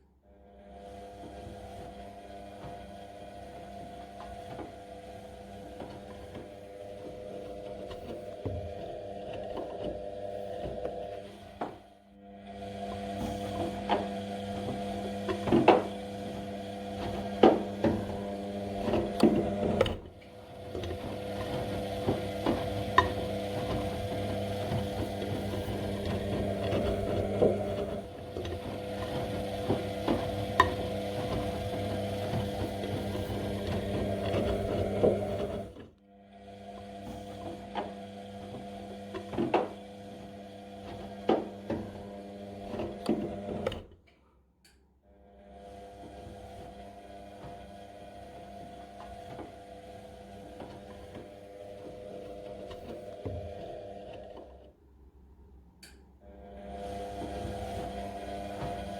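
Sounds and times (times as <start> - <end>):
washing machine motor hum: 0.0 - 44.1, 45.0 - 54.8, 56.2 - 58.9.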